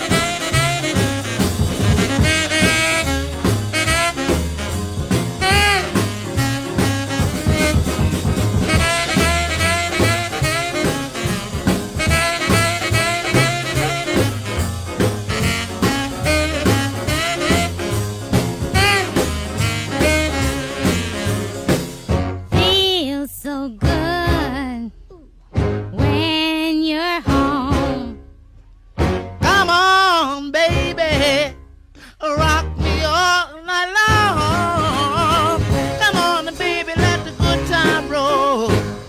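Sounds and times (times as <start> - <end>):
rhythm and blues horns over beat: 0.0 - 31.6, 32.2 - 39.0.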